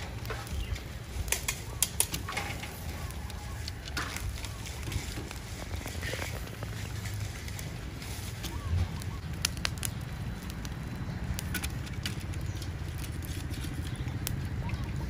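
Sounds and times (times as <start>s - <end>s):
charcoal grill crackling: 0.0s - 15.0s
embers popping and clicking: 0.0s - 15.0s
steady low rumble: 0.0s - 15.0s.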